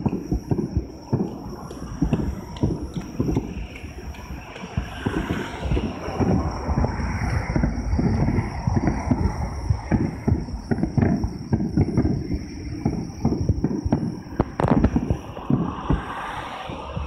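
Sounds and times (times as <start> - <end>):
sharp firework cracks: 0.0 - 16.4
firework shells booming: 0.0 - 16.8.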